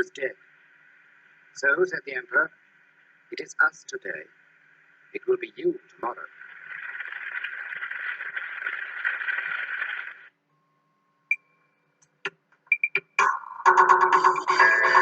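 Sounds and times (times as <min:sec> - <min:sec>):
film soundtrack hiss: 0:00.0 - 0:10.5, 0:12.0 - 0:15.0.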